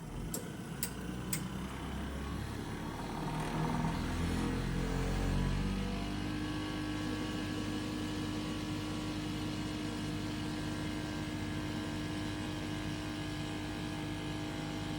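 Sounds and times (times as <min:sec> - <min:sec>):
machine motor hum with steady tone: 0:00.0 - 0:14.9.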